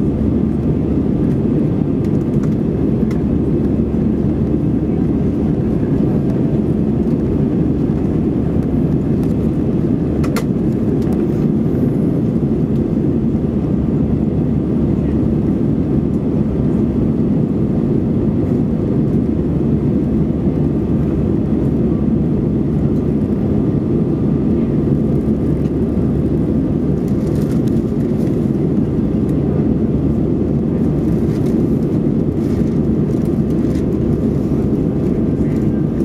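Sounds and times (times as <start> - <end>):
airplane cabin engine drone: 0.0 - 36.0.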